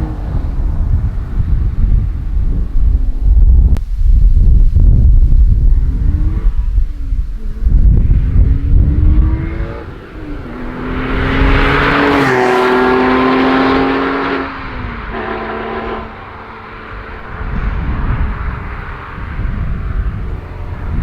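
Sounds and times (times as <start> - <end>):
car engine accelerating hard: 0.0 - 3.6, 5.4 - 21.0
wind rumble on microphone: 0.0 - 21.0.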